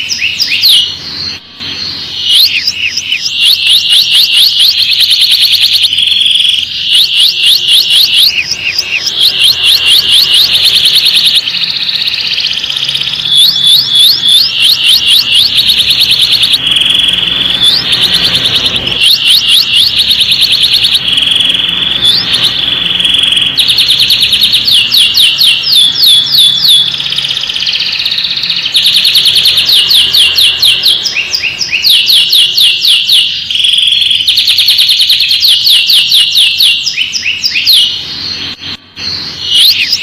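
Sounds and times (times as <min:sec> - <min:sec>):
canary singing: 0:00.0 - 0:40.0.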